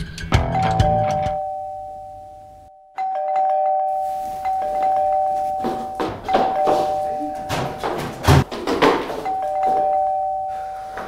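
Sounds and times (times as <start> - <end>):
two-tone doorbell chime: 0.5 - 7.8, 9.2 - 11.0.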